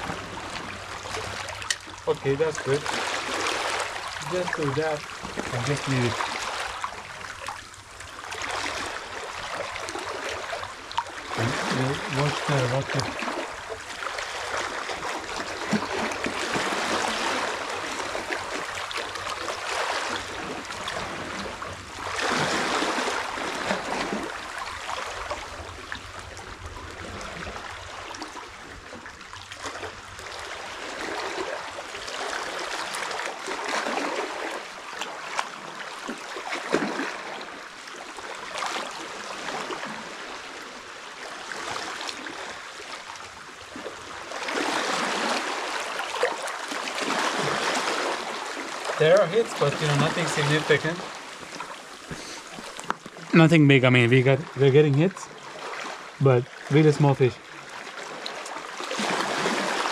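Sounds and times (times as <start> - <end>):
small waves lapping on rocks: 0.0 - 59.9.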